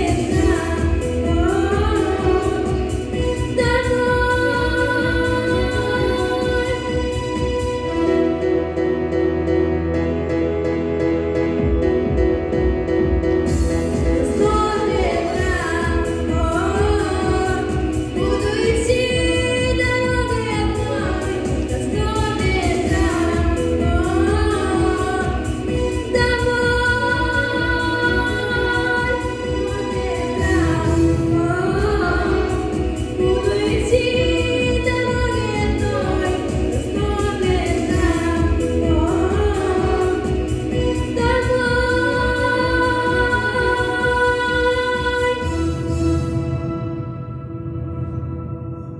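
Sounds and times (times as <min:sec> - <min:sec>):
person singing: 0:00.0 - 0:08.4, 0:13.5 - 0:46.4
instrumental accompaniment: 0:00.0 - 0:48.9.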